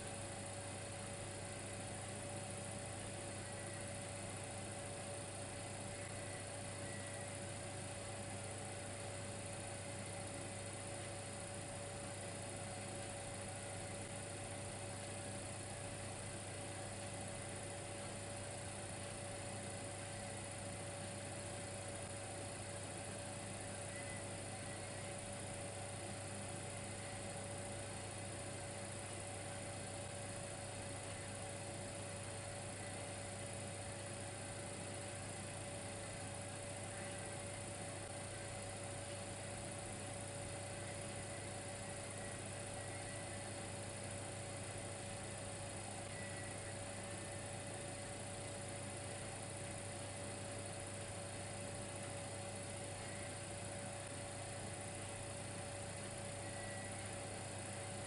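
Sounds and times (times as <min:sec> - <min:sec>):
constant whine: 0:00.0 - 0:58.0
electric heater humming: 0:00.0 - 0:58.0.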